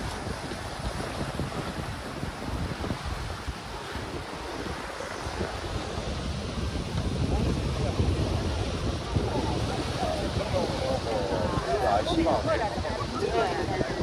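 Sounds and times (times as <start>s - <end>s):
surf on the beach: 0.0s - 14.0s
wind buffeting microphone: 0.0s - 14.0s.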